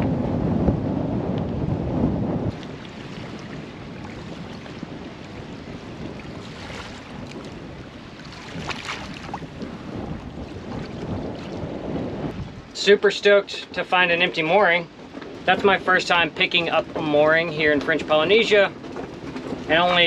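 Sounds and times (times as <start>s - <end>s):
choppy water at boat bow: 0.0s - 20.0s
wind buffeting microphone: 0.0s - 20.0s.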